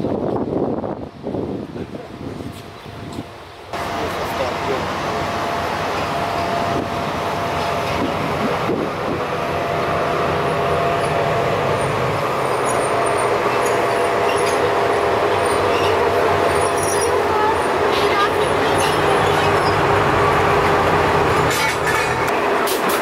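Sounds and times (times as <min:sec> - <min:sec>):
electric locomotive hum and whine: 0:00.0 - 0:23.0.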